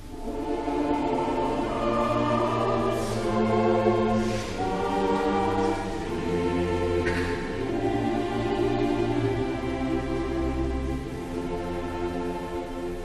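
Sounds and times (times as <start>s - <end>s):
slow choir-like background music: 0.0s - 13.0s.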